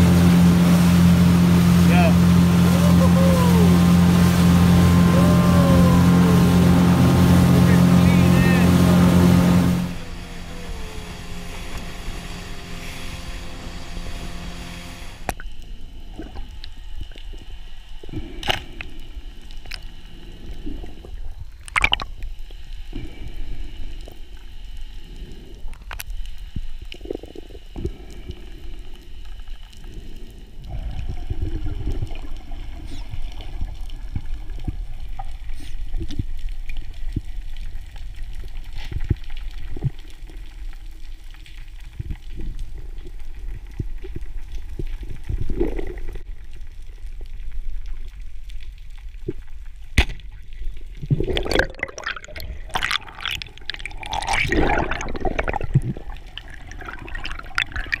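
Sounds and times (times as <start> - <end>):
water bubbling and churning: 0.0 - 26.0, 26.8 - 47.9, 49.1 - 58.0
underwater low rumble: 0.0 - 58.0.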